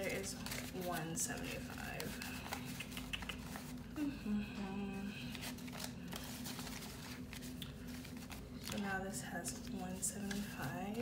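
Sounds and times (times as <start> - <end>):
banknotes rustling and flicking: 0.0 - 4.0, 4.9 - 11.0.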